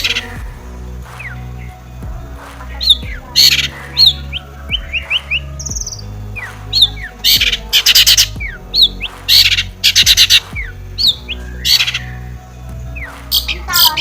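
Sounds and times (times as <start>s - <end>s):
pop music with bass: 0.0s - 14.0s.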